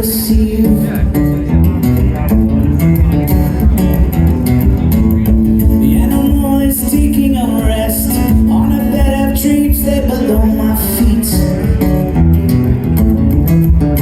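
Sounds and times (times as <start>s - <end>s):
live band guitar music: 0.0s - 14.0s.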